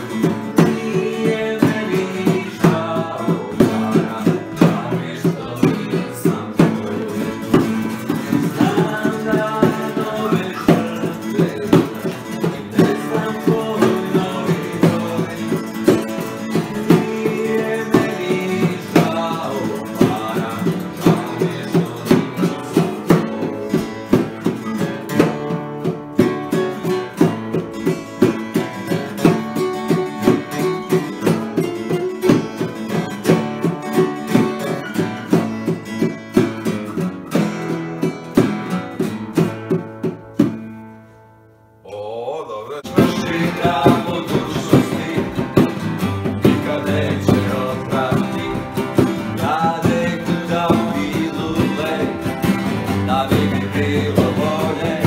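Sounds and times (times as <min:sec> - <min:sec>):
bongos beating: 0:00.0 - 0:41.2, 0:42.8 - 0:55.0
acoustic guitars strummed and picked: 0:00.0 - 0:42.0, 0:42.6 - 0:55.0.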